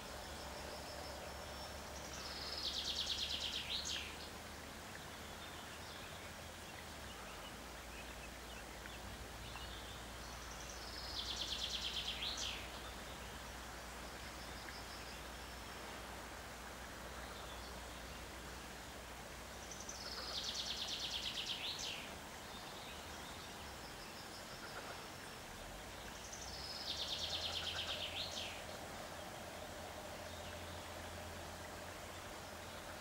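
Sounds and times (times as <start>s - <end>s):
faint outdoor hiss: 0.0s - 33.0s.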